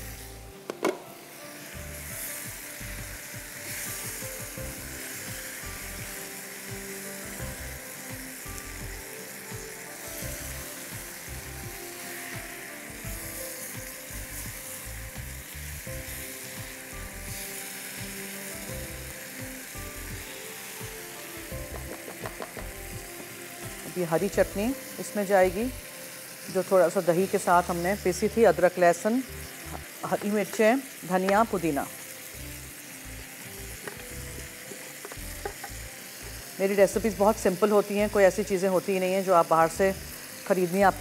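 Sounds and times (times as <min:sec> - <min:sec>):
food sizzling in a pan: 0:00.0 - 0:41.0.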